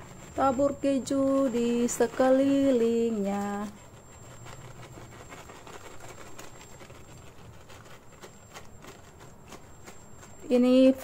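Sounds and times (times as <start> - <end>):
low steady hum: 0.0 - 11.0
plastic bag crinkling: 0.0 - 11.0.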